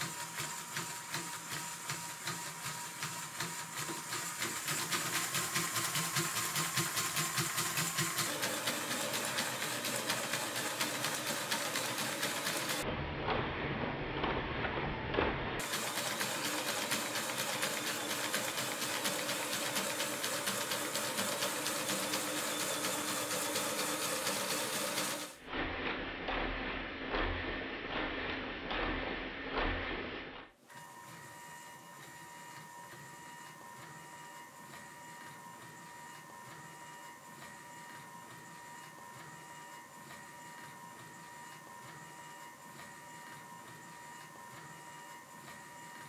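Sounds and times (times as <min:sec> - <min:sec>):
plastic gears whirring and clicking: 0:00.0 - 0:12.9, 0:15.6 - 0:46.0.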